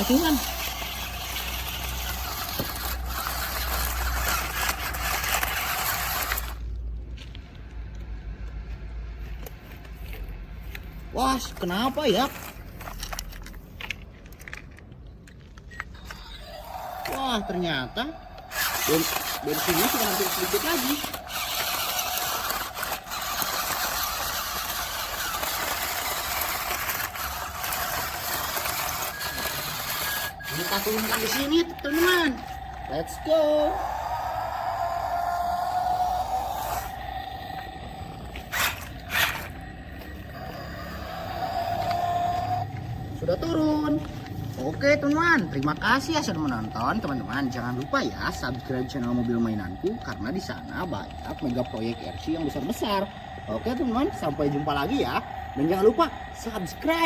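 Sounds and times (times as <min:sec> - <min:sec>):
toy motor and gears straining: 0:00.0 - 0:07.0, 0:09.4 - 0:57.0.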